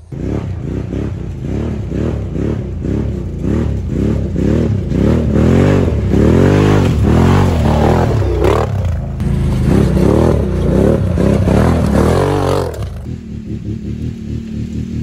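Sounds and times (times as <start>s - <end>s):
distant atv engine: 0.0s - 15.0s
quad engine revving hard: 0.1s - 15.0s.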